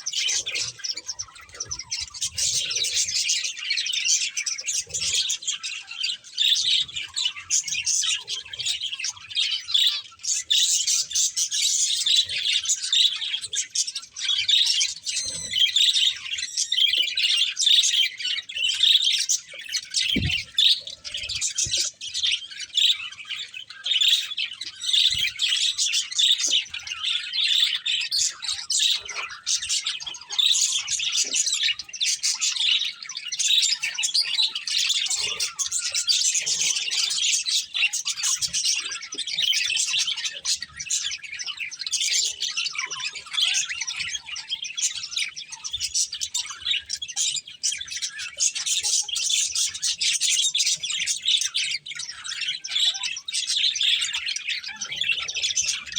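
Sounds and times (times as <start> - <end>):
budgerigars twittering: 0.0 - 55.9.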